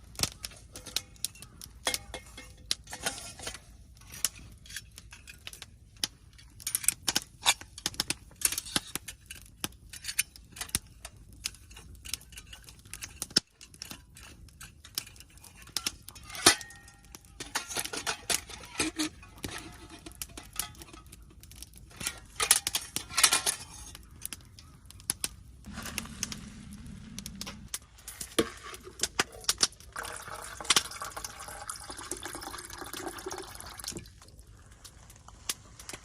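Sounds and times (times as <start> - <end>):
camping gear clinking and rustling: 0.2 - 36.0.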